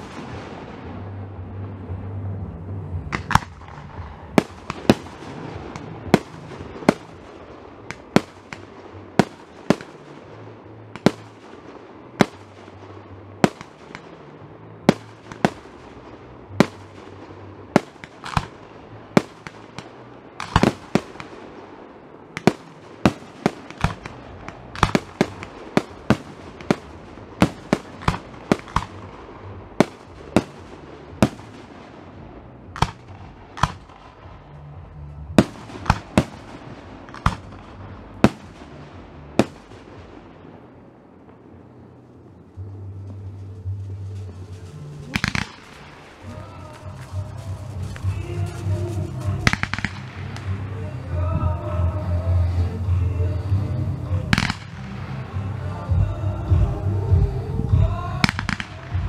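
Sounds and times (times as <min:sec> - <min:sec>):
fireworks bursting with sharp bangs: 0:00.0 - 0:59.0.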